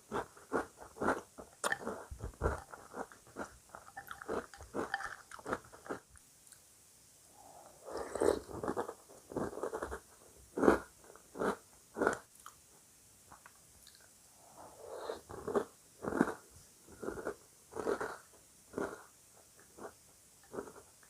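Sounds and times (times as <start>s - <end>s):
person chewing cereal: 0.0s - 6.6s, 7.8s - 12.6s, 15.2s - 21.0s.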